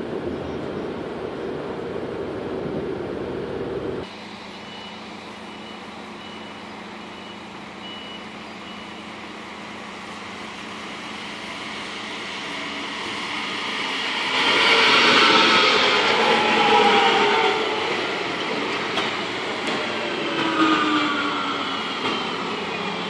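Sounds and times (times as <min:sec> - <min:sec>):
electric train approaching: 0:00.0 - 0:23.0.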